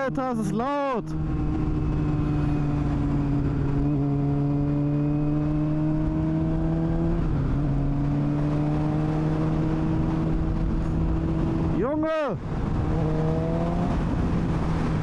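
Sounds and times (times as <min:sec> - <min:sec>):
loud motorcycle engine revving: 0:01.0 - 0:11.8, 0:12.5 - 0:15.0.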